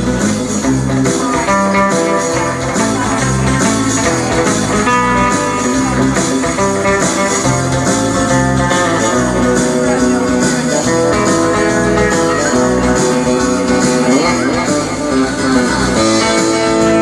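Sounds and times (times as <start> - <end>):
guitar-led band music: 0.0 - 17.0.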